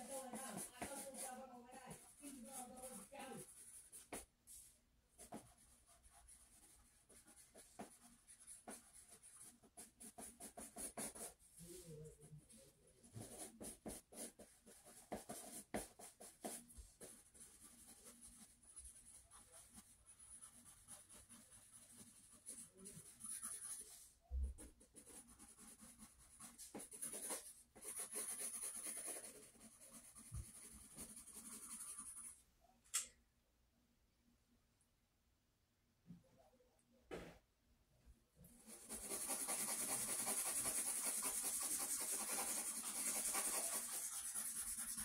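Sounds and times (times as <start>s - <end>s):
pencil scratching on paper: 0.0s - 32.4s, 38.5s - 45.0s.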